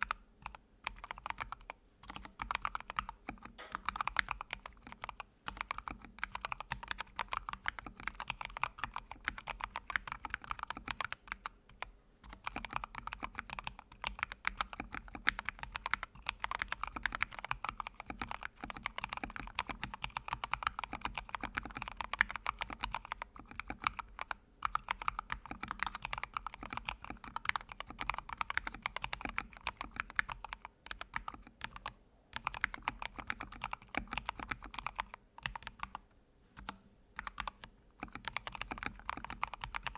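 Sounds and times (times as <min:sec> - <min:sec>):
typing on computer keyboard: 0:00.0 - 0:36.0, 0:36.6 - 0:39.9.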